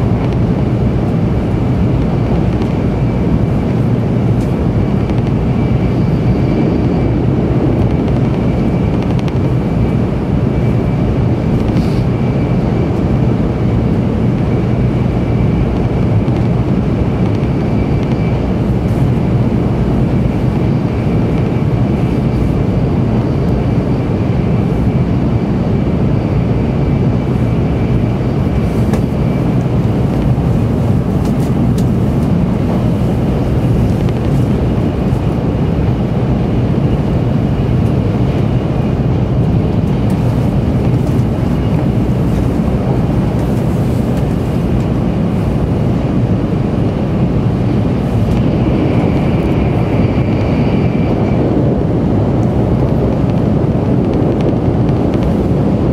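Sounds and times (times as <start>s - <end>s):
faint high whine: 0.0s - 55.9s
train rumbling inside cabin: 0.0s - 55.9s.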